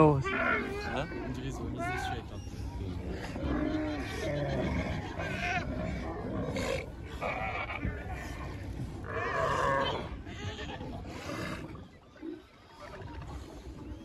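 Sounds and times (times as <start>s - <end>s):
sea lions calling: 0.0s - 14.0s.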